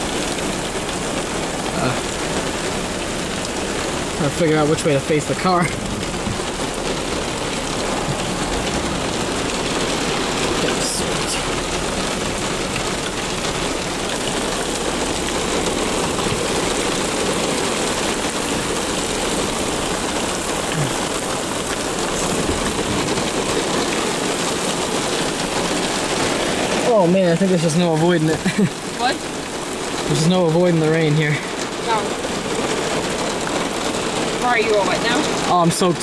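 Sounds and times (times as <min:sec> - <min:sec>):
heavy rain pelting car roof: 0:00.0 - 0:36.0.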